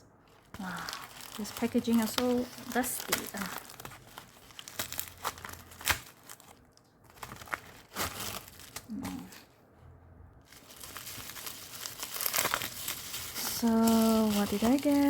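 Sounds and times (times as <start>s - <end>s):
packaging crinkling: 0.2s - 9.3s, 10.5s - 15.0s.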